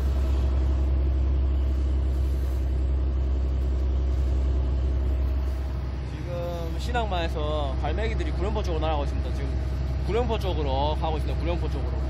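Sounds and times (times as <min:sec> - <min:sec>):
boat engine rumbling: 0:00.0 - 0:12.0
churning wake rushing: 0:00.0 - 0:12.0.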